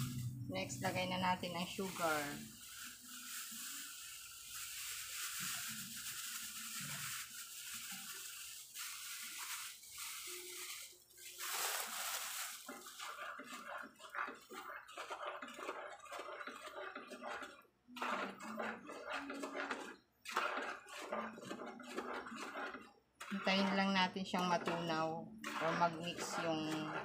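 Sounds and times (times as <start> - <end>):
spoon scraping a pan: 0.0 - 27.0.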